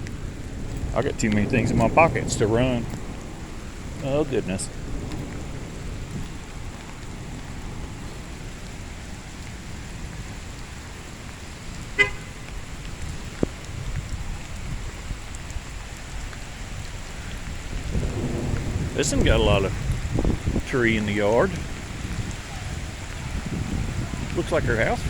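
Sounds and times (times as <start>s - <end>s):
thunderstorm rumble with rain: 0.0s - 25.0s.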